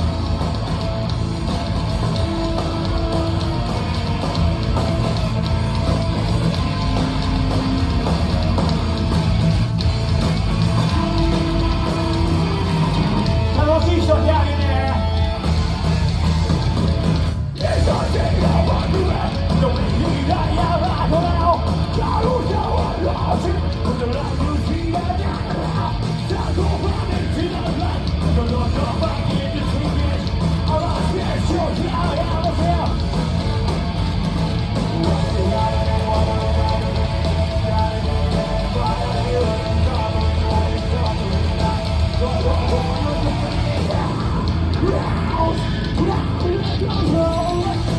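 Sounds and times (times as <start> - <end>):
heavy metal band playing: 0.0 - 47.9.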